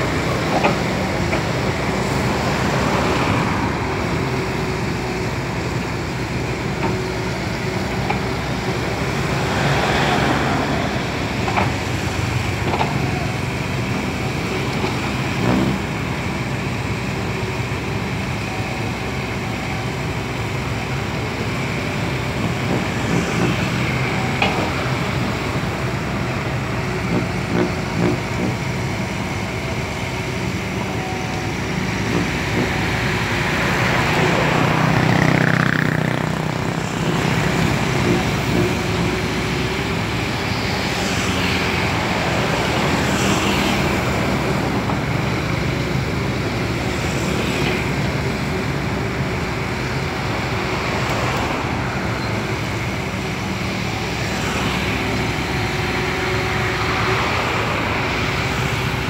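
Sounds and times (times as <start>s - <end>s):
excavator diesel engine running: 0.0s - 59.0s
road vehicles passing: 0.0s - 59.0s.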